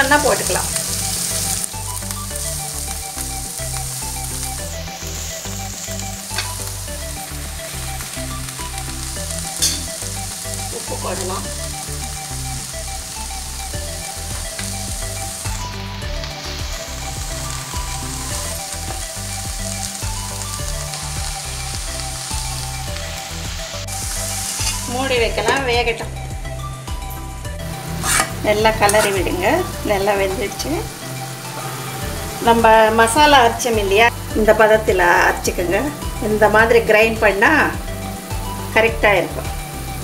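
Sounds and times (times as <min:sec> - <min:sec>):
cabbage sizzling in hot oil: 0:00.0 - 0:40.0.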